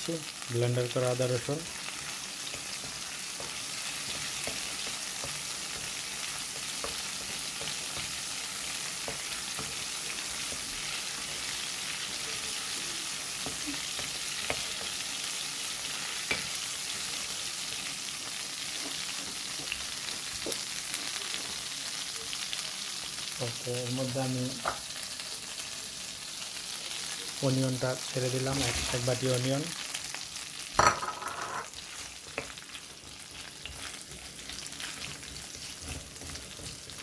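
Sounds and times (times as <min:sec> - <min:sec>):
paste sizzling in hot oil: 0:00.0 - 0:37.0.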